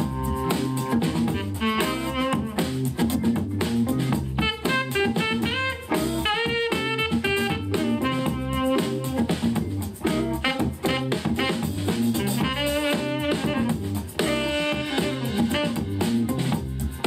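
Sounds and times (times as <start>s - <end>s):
instrumental music with steady beat: 0.0s - 17.0s.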